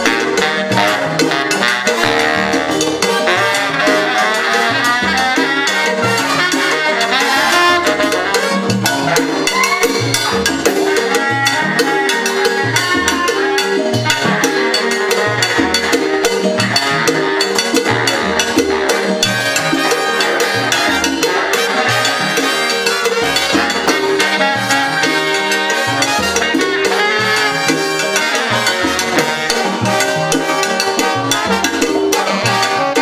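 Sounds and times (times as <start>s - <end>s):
big band playing salsa: 0.0s - 33.0s.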